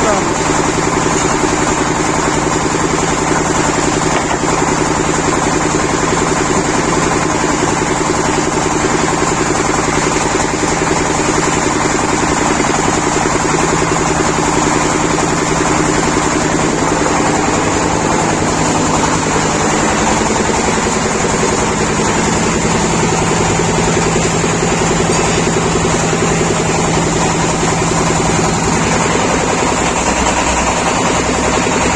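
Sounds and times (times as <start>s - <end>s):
machine motor drone: 0.0s - 31.9s.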